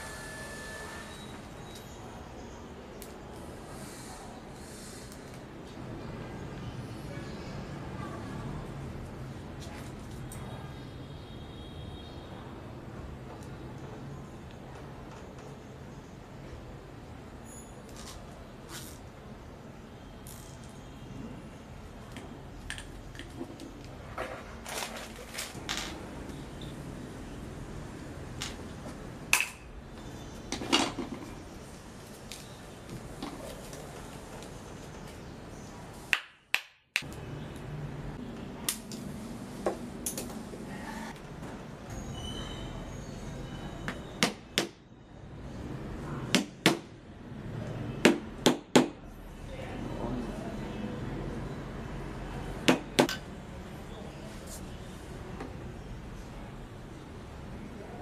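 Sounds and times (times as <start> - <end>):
low steady background noise: 0.0 - 58.0.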